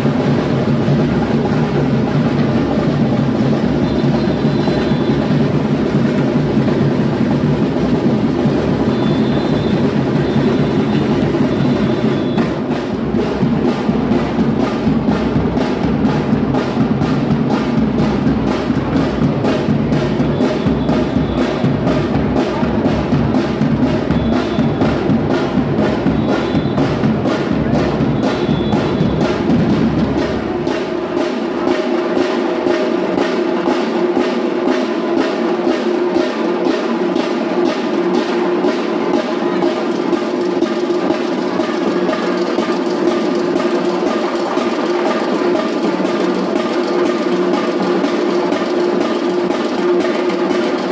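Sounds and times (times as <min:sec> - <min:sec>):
percussion ensemble drumming: 0:00.0 - 0:50.9.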